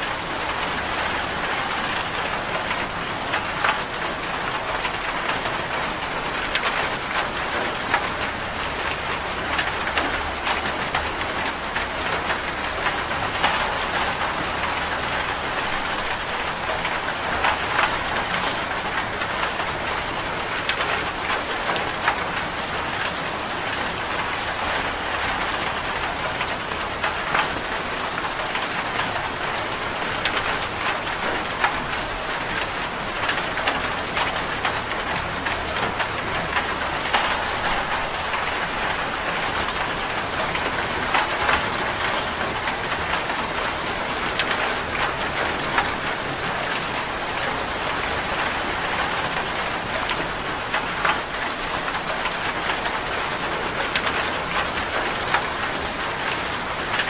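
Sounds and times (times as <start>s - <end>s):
raindrops pattering on a surface: 0.0s - 57.0s
steady rain falling: 0.0s - 57.0s.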